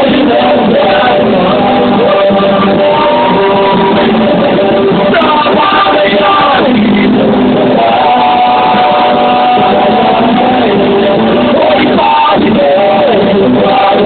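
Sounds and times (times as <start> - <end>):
bending guitar line: 0.0 - 14.0
rock band playing loudly: 0.0 - 14.0.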